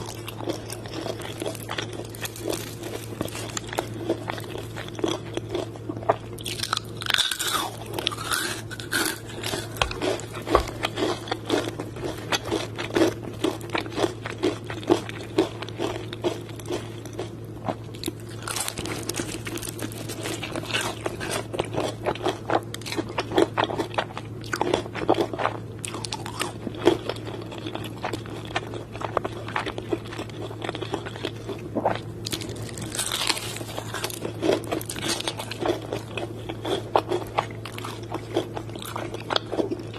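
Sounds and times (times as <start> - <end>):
crunchy chewing: 0.0 - 39.9
steady low hum: 0.0 - 39.9.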